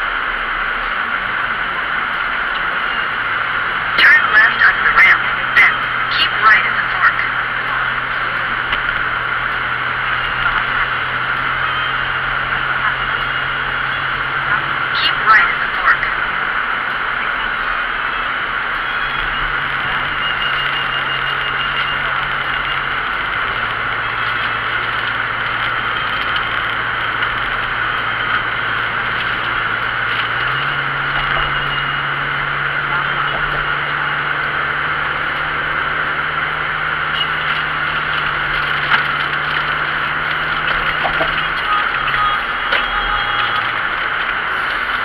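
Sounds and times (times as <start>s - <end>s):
low engine hum: 0.0s - 45.0s
road noise: 0.0s - 45.0s.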